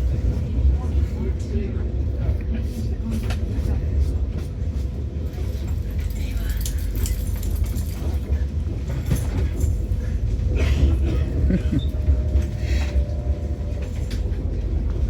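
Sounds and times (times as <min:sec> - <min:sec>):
train rumbling over rails: 0:00.0 - 0:15.0.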